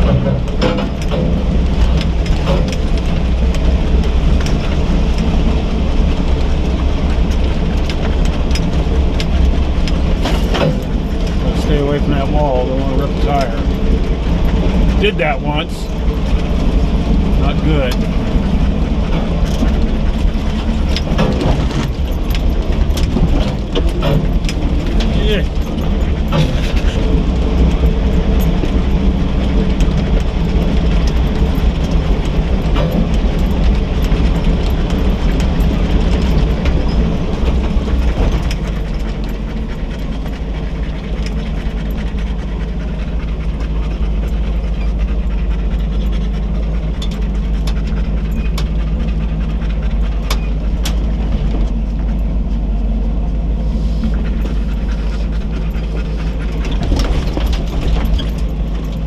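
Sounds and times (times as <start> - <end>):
truck body clattering and knocking: 0.0 - 53.5, 54.2 - 59.0
truck engine running: 0.0 - 59.0.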